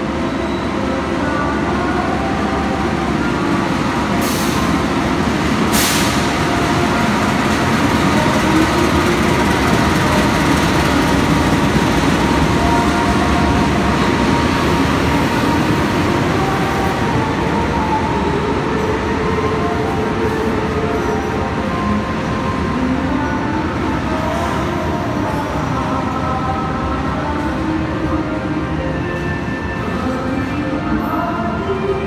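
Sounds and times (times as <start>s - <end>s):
train rolling past: 0.0s - 32.0s.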